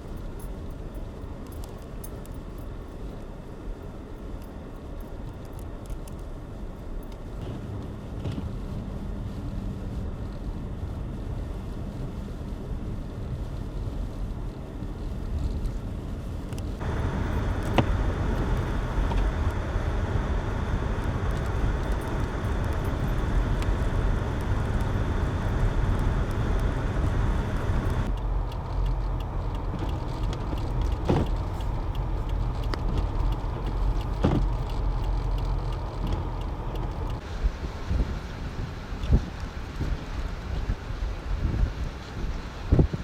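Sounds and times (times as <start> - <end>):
car road and engine noise: 0.0 - 43.0
wind: 0.0 - 43.0.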